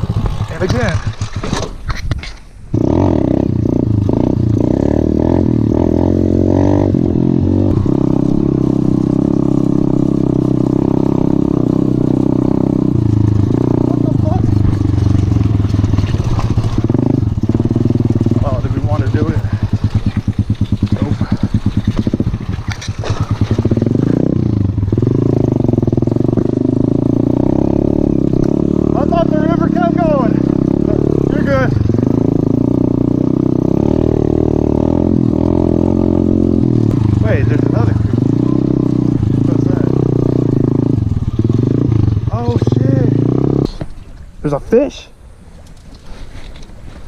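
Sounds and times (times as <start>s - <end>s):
motorbike engine running: 0.0s - 1.6s, 2.7s - 43.8s.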